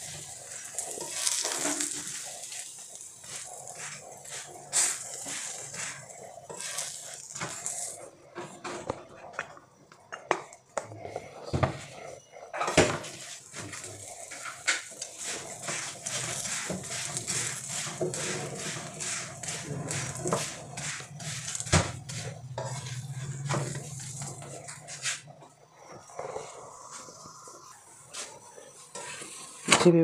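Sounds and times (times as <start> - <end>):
metal spatula scraping: 0.0 - 8.8, 11.7 - 29.8
oil sizzling in a pan: 0.0 - 30.0.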